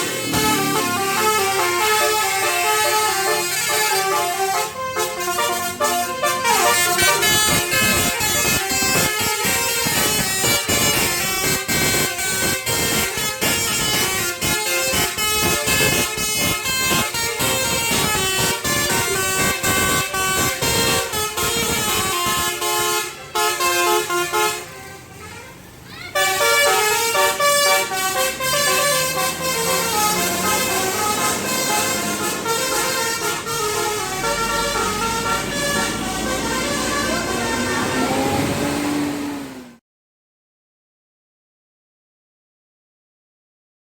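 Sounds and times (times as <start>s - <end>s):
bus musical horn tune: 0.0s - 25.2s, 26.1s - 39.7s.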